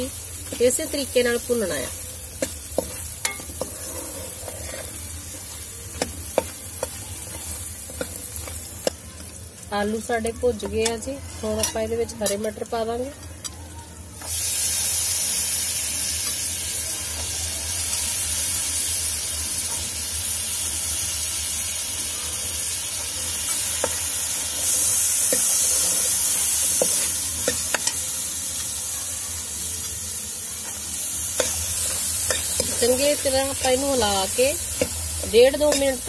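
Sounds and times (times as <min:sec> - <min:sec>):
vegetables sizzling in a pan: 0:00.0 - 0:36.0.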